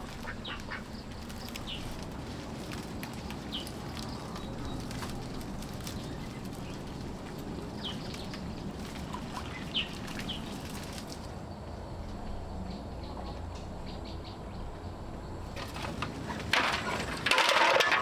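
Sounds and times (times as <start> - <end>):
steady low background noise: 0.0 - 18.0.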